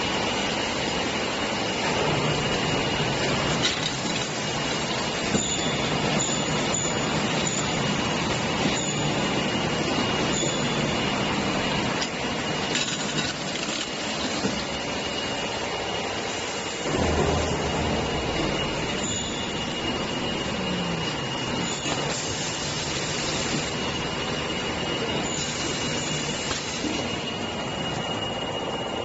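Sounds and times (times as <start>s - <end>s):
bottle washing machine whine: 0.0s - 29.0s.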